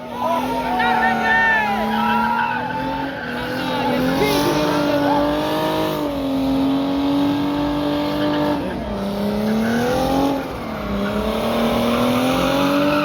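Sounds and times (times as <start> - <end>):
car engine revving high: 0.0 - 13.0.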